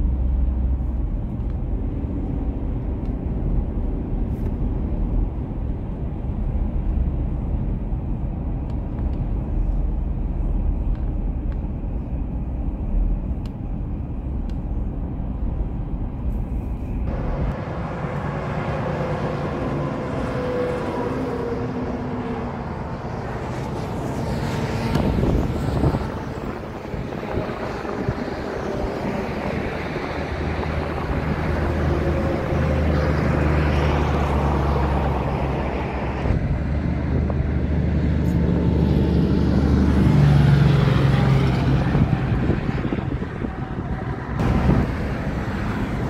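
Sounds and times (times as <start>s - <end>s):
diesel engines humming: 0.0s - 46.0s
tyre and road noise: 0.0s - 46.0s.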